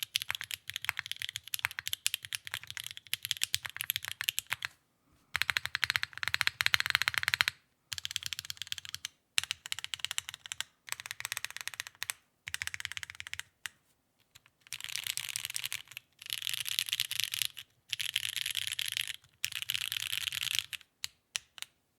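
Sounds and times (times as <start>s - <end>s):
mechanical keyboard typing: 0.0s - 4.7s, 5.4s - 13.5s, 14.4s - 21.7s.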